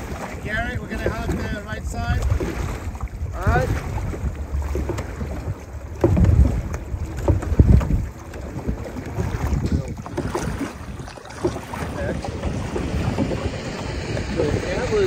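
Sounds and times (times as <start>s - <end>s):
water splashing around canoe: 0.0s - 15.0s
wind buffeting microphone: 0.0s - 15.0s.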